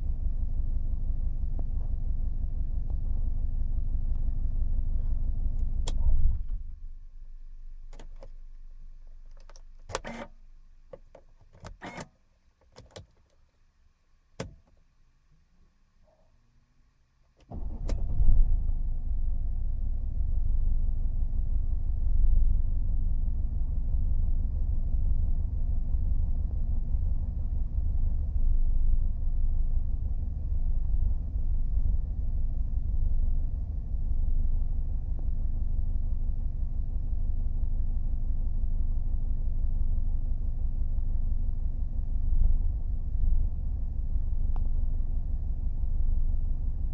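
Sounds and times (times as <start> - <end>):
diesel engine starting and idling: 0.0 - 8.3, 17.5 - 46.9.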